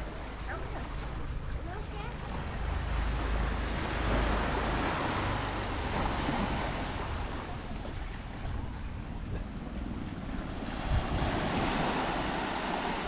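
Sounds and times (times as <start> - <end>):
small waves lapping on sand and rocks: 0.0 - 13.0
wind rumbling on microphone: 0.0 - 13.0.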